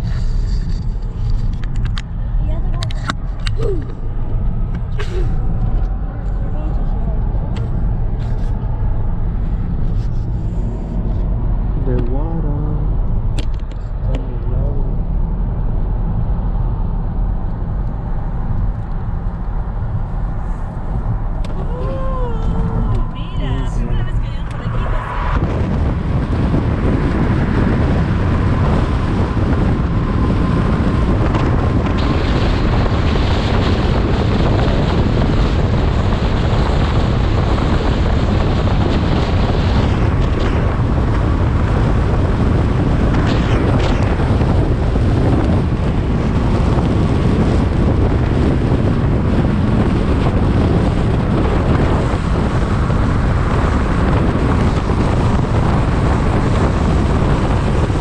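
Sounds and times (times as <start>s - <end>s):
road and tyre noise: 0.0s - 58.0s
wind buffeting microphone: 0.0s - 58.0s.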